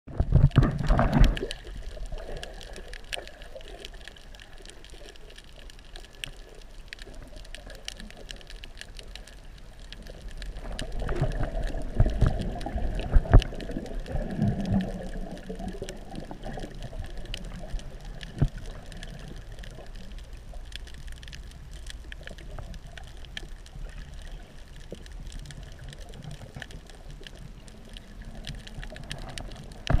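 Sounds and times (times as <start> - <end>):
faint clicks: 0.1 - 30.0
muffled underwater noise: 0.1 - 30.0.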